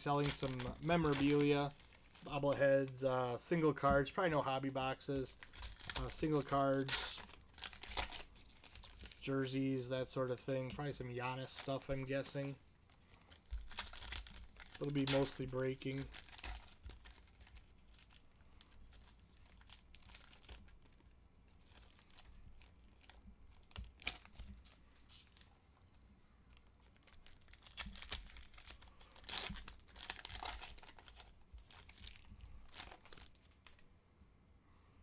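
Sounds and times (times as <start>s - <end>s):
foil wrappers crinkling and tearing: 0.0s - 9.8s, 10.8s - 25.5s, 26.5s - 33.8s.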